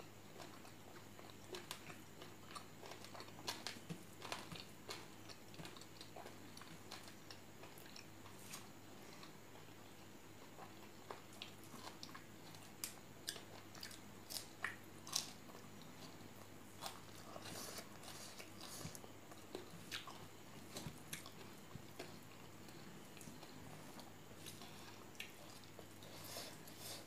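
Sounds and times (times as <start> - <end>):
person chewing and crunching food: 0.2 - 27.0.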